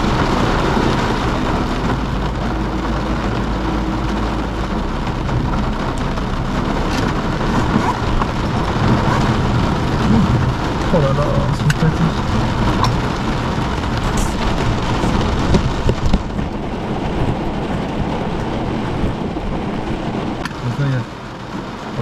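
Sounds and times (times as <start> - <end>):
low hum: 0.0 - 20.4
heavy rain on car windshield: 0.0 - 22.0.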